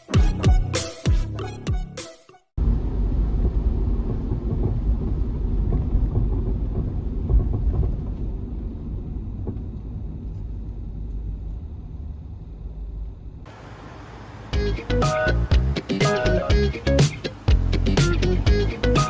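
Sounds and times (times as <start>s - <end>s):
minivan rumble: 2.6s - 19.0s.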